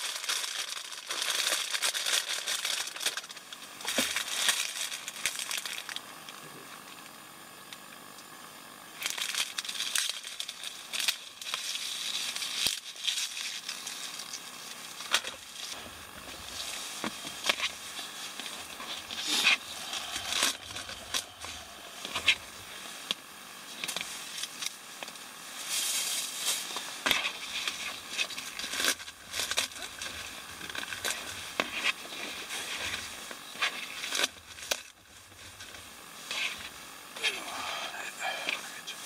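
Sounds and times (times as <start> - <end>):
plastic bag crinkling: 0.0 - 6.0, 9.0 - 23.1, 23.8 - 37.3.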